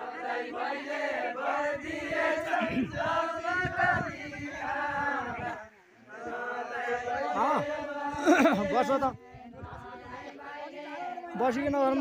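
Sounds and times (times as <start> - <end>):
group singing in chorus: 0.0 - 12.0.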